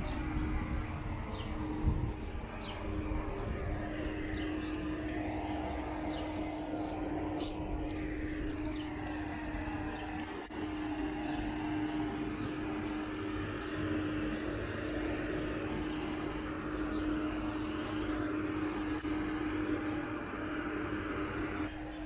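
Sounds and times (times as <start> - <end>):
diesel train running: 0.0 - 22.0.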